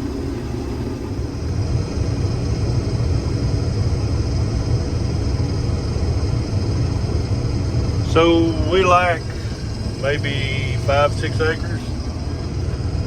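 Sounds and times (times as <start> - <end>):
combine engine rumble: 0.0 - 13.0
high machinery whine: 0.0 - 13.0.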